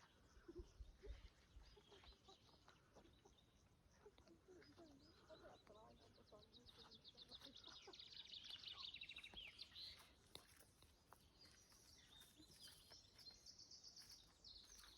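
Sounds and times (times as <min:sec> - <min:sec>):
faint bird calls: 0:00.0 - 0:14.9
songbird trill: 0:00.0 - 0:14.9.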